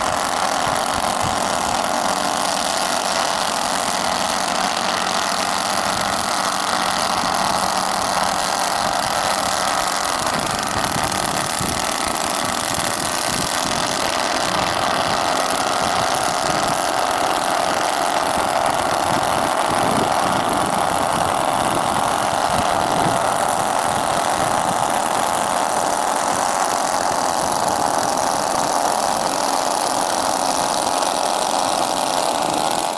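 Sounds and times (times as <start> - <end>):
model plane engines droning: 0.0 - 32.9.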